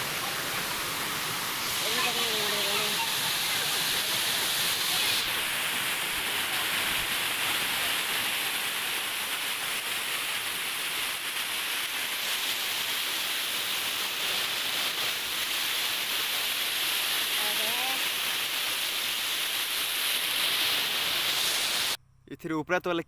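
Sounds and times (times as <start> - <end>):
waterfall splashing over rocks: 0.0 - 22.0.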